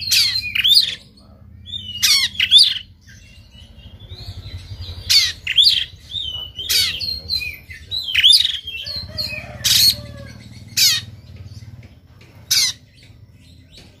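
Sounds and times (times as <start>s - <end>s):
bird harsh rasping notes: 0.0s - 11.8s, 12.4s - 13.3s.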